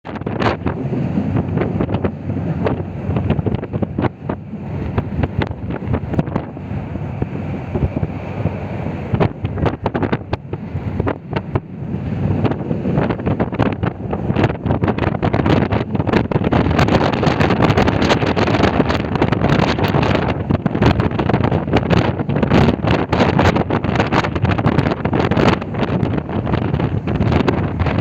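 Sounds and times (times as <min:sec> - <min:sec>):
train rumbling at speed: 0:00.0 - 0:28.0
wind buffeting microphone: 0:00.0 - 0:28.0.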